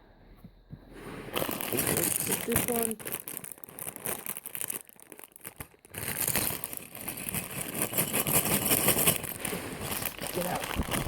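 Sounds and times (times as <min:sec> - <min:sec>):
plastic bags crinkling: 0:01.3 - 0:11.0
plastic bricks shifting: 0:01.3 - 0:11.0.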